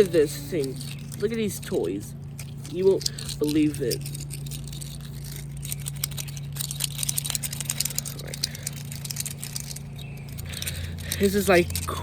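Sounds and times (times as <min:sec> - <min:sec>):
plastic fidget toy clicking: 0:00.0 - 0:12.0
steady low hum: 0:00.0 - 0:12.0.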